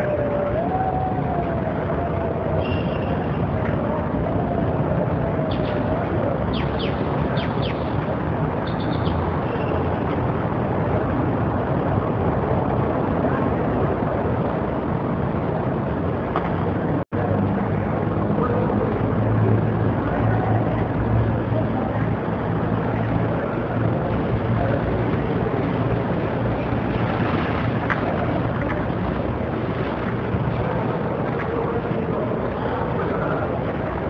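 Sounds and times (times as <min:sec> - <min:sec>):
outdoor rushing hiss and rumble: 0:00.0 - 0:34.0.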